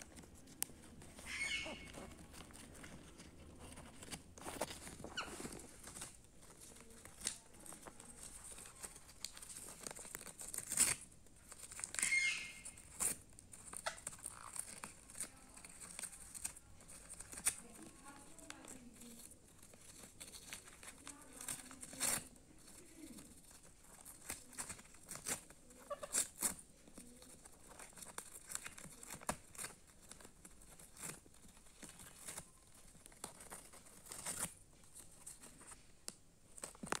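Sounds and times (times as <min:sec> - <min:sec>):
parrot tearing paper: 0:00.0 - 0:37.0.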